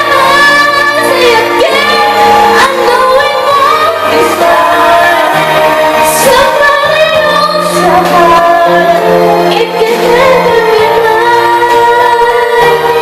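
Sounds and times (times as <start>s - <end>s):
instrumental accompaniment: 0.0s - 13.0s
woman singing: 0.0s - 13.0s.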